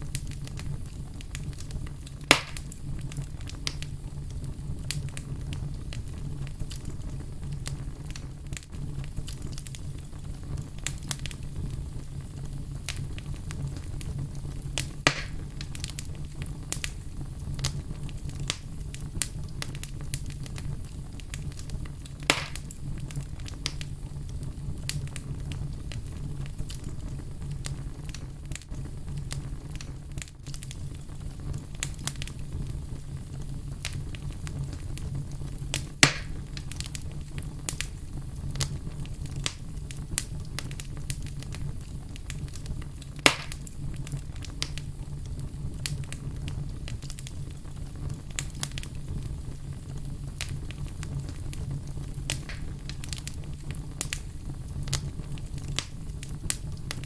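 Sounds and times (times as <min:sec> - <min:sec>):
fire crackling: 0:00.0 - 0:57.0
loud fire pops: 0:00.0 - 0:57.0.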